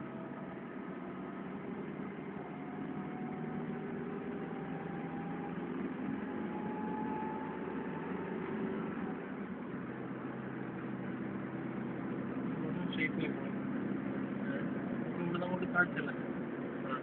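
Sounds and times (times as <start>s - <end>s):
engine and road noise hum: 0.0s - 17.0s
faint rising whine: 0.0s - 17.0s.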